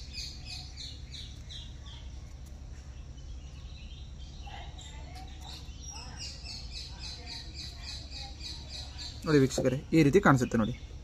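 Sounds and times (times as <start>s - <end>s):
low outdoor rumble: 0.0s - 11.0s
small bird chirping: 0.0s - 11.0s.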